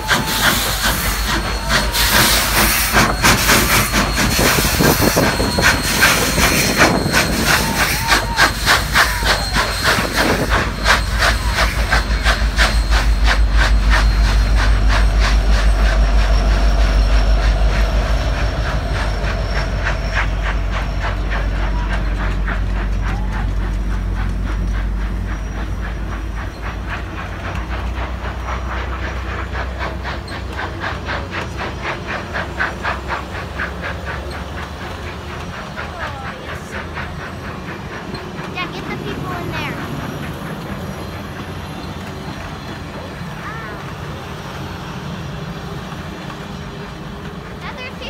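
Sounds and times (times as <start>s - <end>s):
steam locomotive rumbling past: 0.0s - 48.0s
train wheels clickety-clack: 0.0s - 48.0s.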